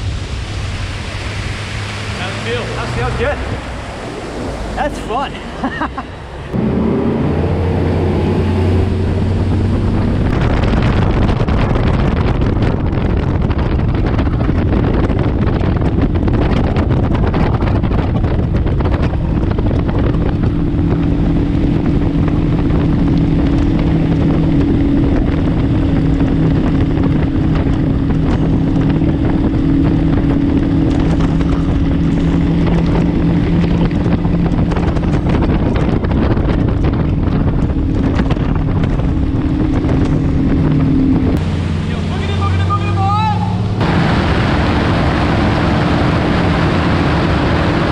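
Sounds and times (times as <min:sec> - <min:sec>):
wind noise on microphone: 0:00.0 - 0:47.9
outboard motor running at high speed: 0:01.2 - 0:47.9.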